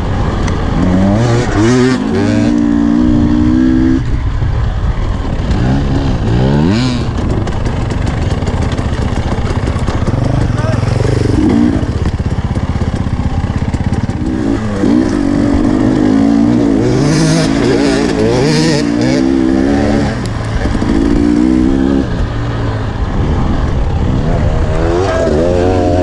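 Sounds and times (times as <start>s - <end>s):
dirt bike engine revving: 0.0s - 4.3s, 5.1s - 26.0s.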